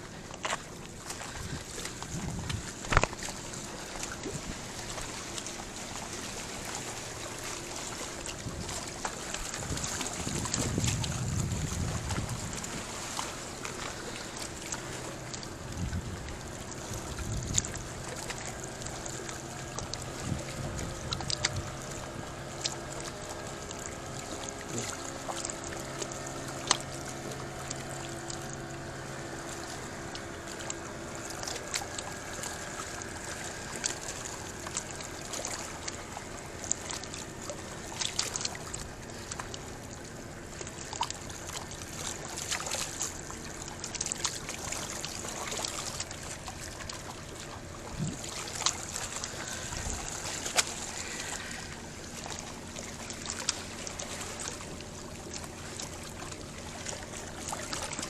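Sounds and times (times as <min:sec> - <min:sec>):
motor hum: 0:00.0 - 0:58.0
water lapping against a pier: 0:00.0 - 0:58.0.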